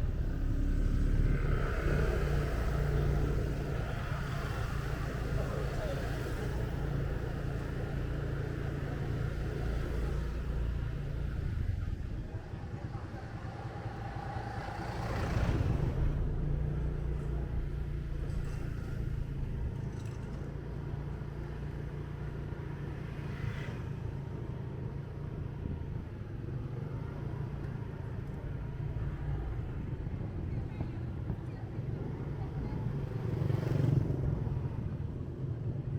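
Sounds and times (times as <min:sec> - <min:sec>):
surrounding traffic: 0:00.0 - 0:35.9.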